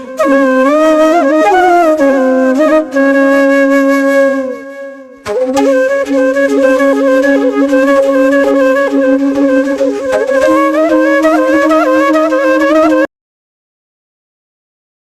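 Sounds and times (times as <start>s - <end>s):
flute-like melody: 0.0s - 13.1s.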